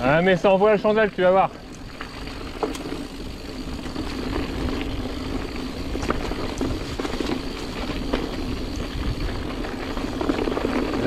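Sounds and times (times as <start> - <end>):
bike clicks and rattles: 0.0 - 11.0
bike tyre rumble on dirt: 0.0 - 11.0.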